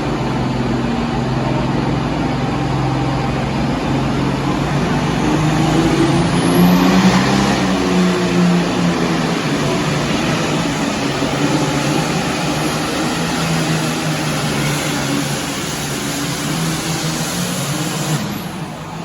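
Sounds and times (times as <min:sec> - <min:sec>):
tractor diesel engine at full power: 0:00.0 - 0:19.0.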